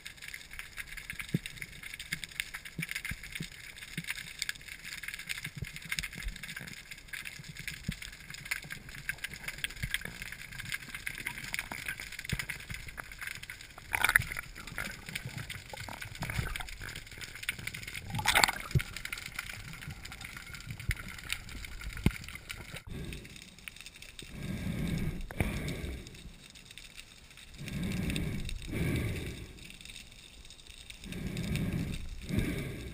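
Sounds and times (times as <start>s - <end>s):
clicks and crackles: 0.0s - 32.9s
muffled underwater hiss: 0.0s - 32.9s.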